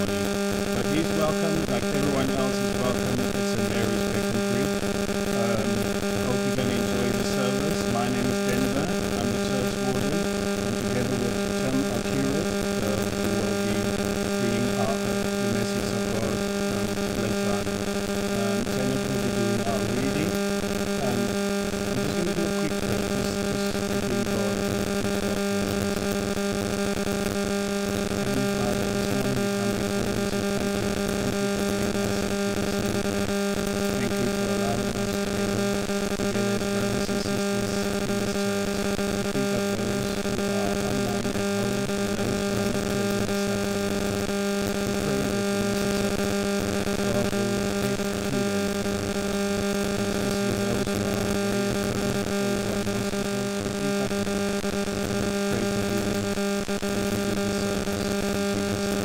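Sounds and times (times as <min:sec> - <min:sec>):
steady electronic drone: 0:00.0 - 0:59.0.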